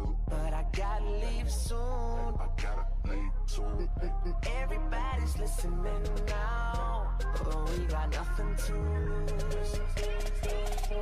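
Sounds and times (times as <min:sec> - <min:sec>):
pop music with beat and bass: 0:00.0 - 0:11.0.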